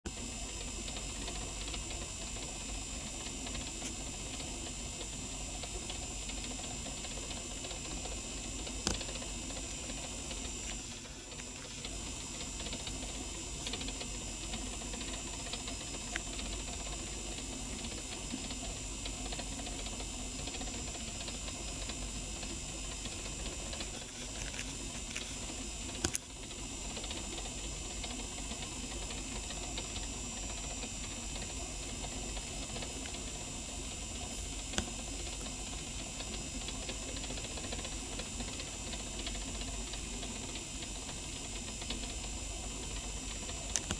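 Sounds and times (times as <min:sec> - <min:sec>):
geared motor whirring: 0:00.1 - 0:43.9.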